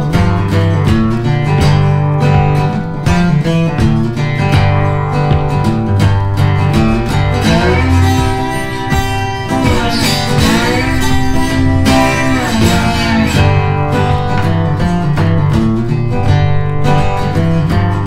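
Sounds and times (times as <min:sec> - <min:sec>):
acoustic guitar music: 0:00.0 - 0:18.0
bass line: 0:00.0 - 0:18.0.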